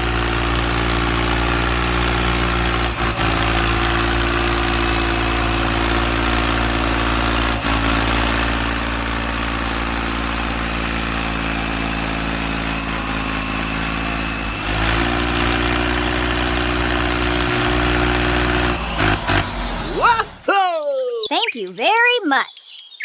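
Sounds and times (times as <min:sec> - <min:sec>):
engine idling: 0:00.0 - 0:20.5.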